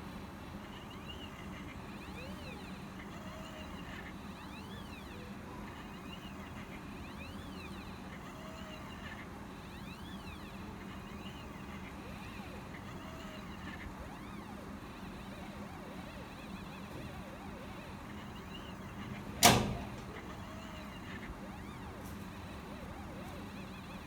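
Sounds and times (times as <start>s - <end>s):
stepper motor whines: 3.4s - 24.0s.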